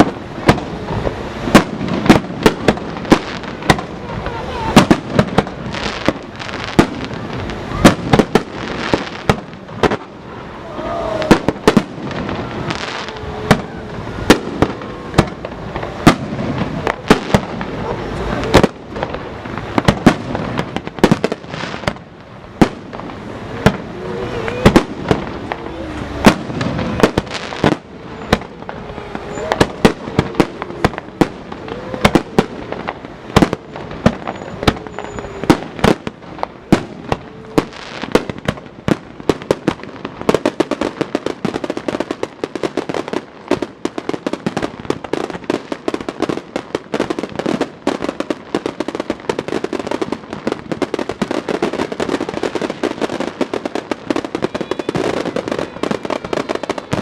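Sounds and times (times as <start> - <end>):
fireworks bangs: 0.0 - 57.0
fireworks crackling pops: 0.0 - 57.0.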